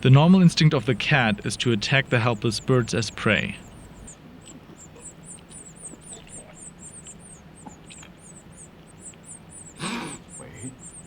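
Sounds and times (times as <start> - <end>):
nestling birds cheeping: 0.0 - 11.0.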